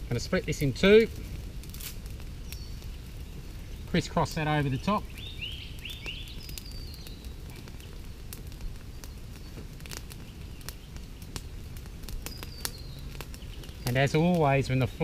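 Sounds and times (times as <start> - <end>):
fire crackling with sharp pops: 0.0 - 15.0.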